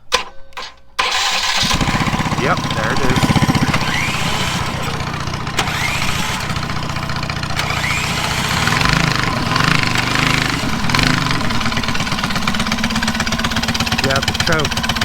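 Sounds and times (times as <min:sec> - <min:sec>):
small engine running: 0:01.0 - 0:15.0.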